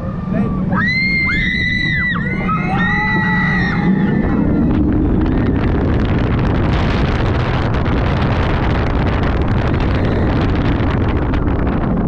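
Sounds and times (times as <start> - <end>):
roller coaster rumbling on track: 0.0 - 12.0
wind rushing over microphone: 0.0 - 12.0.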